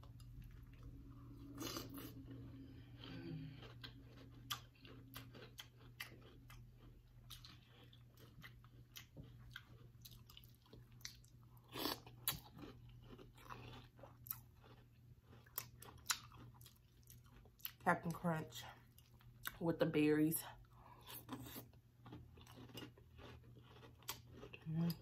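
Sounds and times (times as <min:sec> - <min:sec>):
cereal crunching while chewing: 0:00.0 - 0:18.3, 0:20.7 - 0:25.0.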